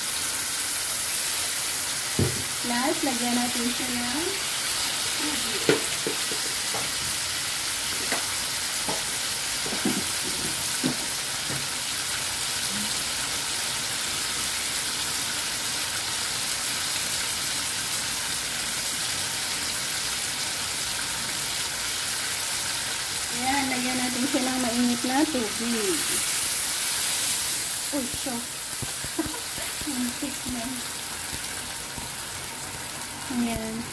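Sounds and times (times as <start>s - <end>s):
fish sizzling in frying pan: 0.0s - 33.9s.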